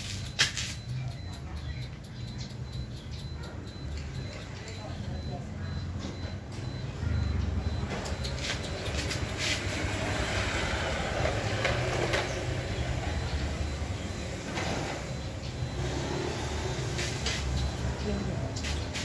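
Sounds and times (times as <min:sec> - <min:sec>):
traffic passing by: 0:01.9 - 0:19.0.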